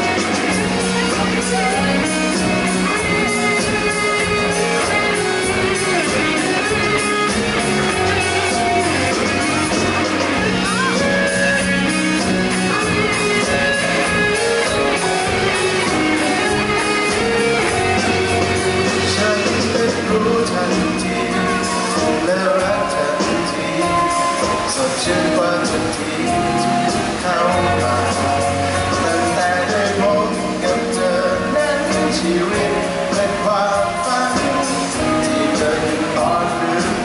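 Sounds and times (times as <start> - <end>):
bass guitar: 0.0 - 37.0
drum kit: 0.0 - 37.0
electric guitars: 0.0 - 37.0.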